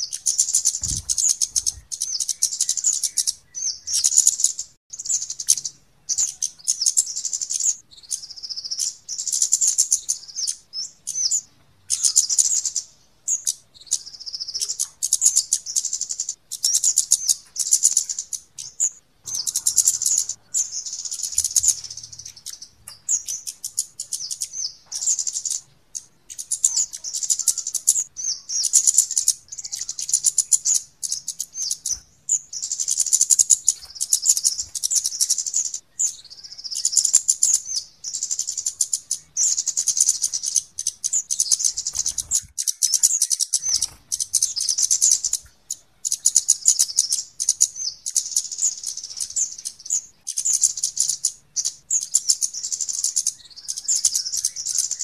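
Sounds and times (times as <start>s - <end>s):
recorded bird call chips: 0.0s - 55.0s.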